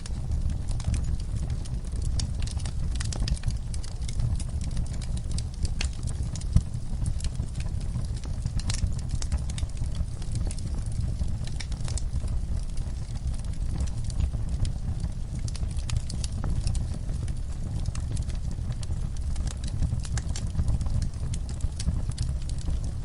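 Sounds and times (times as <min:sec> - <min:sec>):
burning logs crackling and popping: 0:00.0 - 0:23.0
fire flames rumbling: 0:00.0 - 0:23.0.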